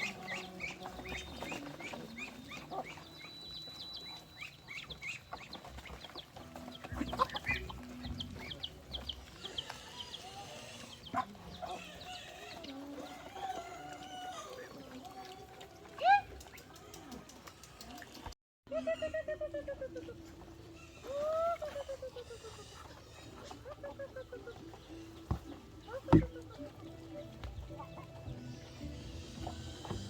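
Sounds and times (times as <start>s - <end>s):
chickens clucking and calling: 0.0s - 30.0s.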